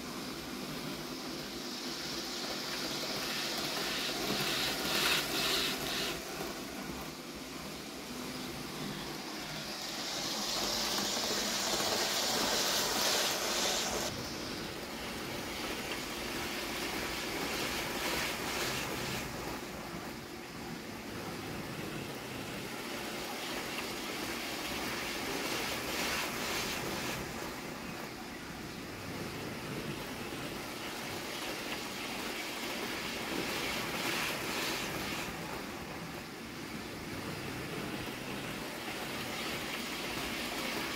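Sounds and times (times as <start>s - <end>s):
model train whirring on track: 0.0s - 40.9s.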